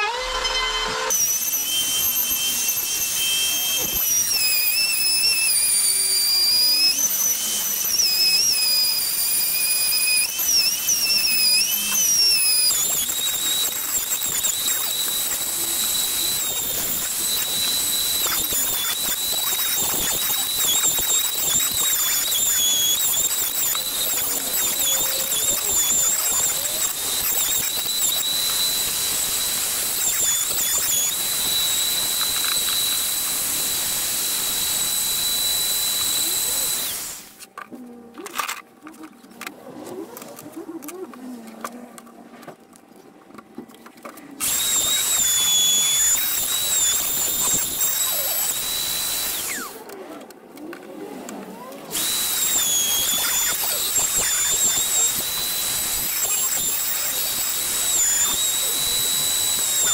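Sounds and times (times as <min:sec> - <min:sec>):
router motor whine: 0:00.0 - 0:37.8, 0:44.4 - 0:59.9
router bit hissing: 0:01.1 - 0:37.5, 0:44.4 - 0:49.9, 0:51.9 - 0:59.9.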